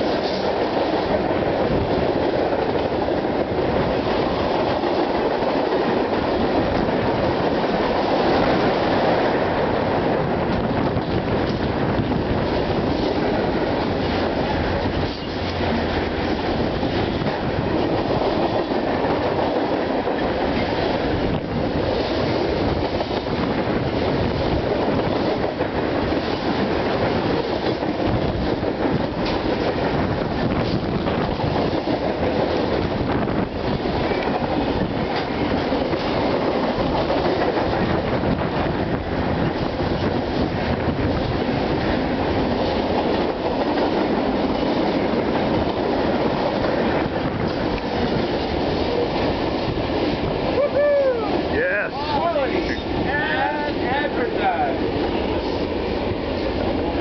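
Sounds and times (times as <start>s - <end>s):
wheels clacking on rail joints: 0.0s - 50.4s
train wheels rumbling on rail: 0.0s - 57.0s.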